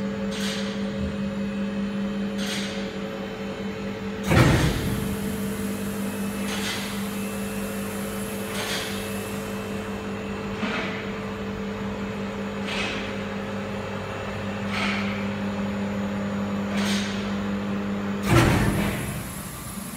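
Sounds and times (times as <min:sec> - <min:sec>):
machine electric hum: 0:00.0 - 0:19.9.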